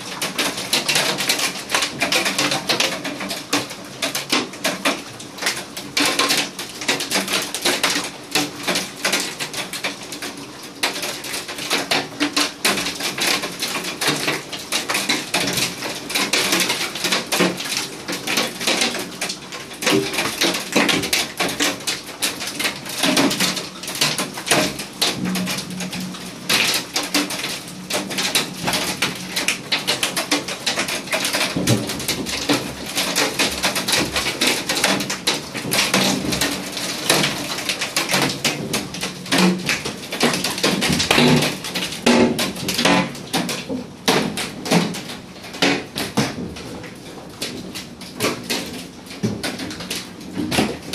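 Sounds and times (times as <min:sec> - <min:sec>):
hailstones pelting down: 0:00.0 - 0:50.9.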